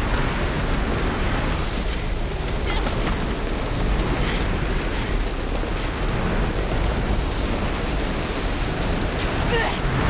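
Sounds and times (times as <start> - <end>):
avalanche rumble: 0.0 - 10.0.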